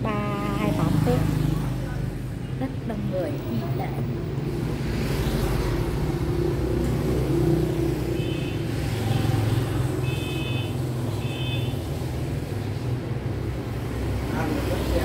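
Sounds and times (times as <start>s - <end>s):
motorbikes passing: 0.0s - 15.0s.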